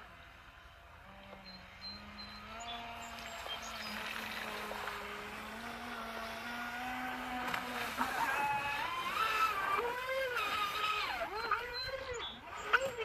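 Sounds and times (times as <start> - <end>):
electric rc boat whining: 0.0 - 13.0.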